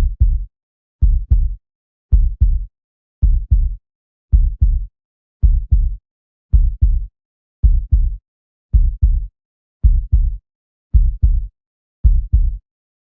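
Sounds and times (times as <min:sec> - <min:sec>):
heartbeat: 0:00.0 - 0:08.2, 0:08.8 - 0:10.4, 0:11.0 - 0:12.6.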